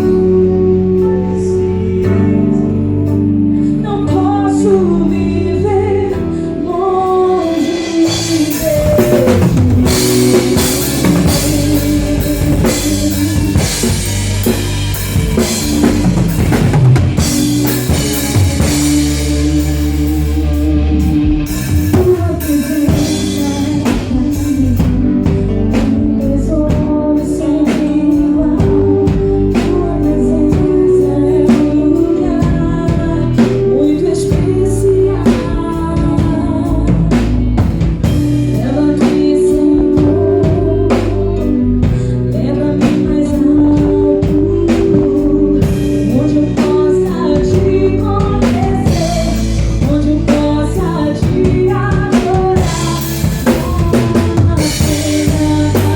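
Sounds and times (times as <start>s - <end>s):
drum kit: 0.0s - 55.9s
live band playing: 0.0s - 55.9s.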